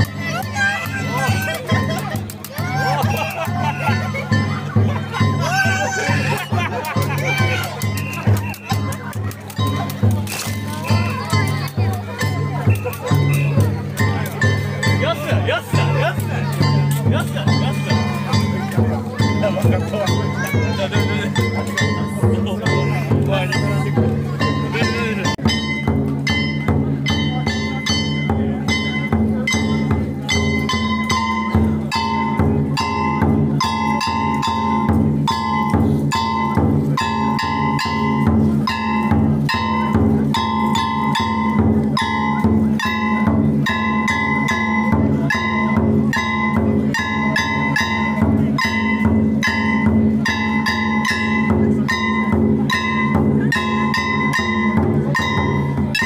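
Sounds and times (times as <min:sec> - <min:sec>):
large barrel drum beating: 0:00.0 - 0:56.0.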